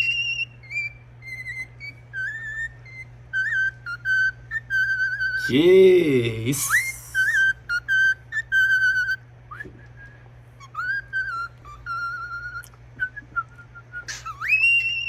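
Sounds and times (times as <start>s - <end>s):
cockatiel whistling a tune: 0.0s - 5.6s, 6.6s - 15.0s.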